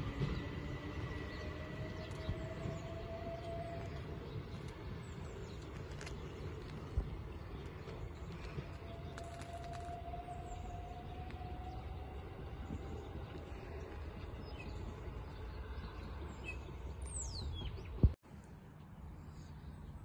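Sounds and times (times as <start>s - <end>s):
distant electric train pulling away: 0.0s - 17.9s
bird chirping: 0.2s - 18.1s.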